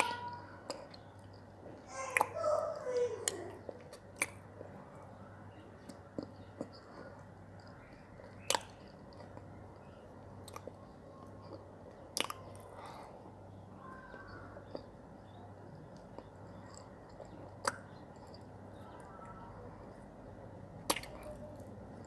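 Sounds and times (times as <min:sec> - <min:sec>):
soft chewing: 0:00.0 - 0:22.0.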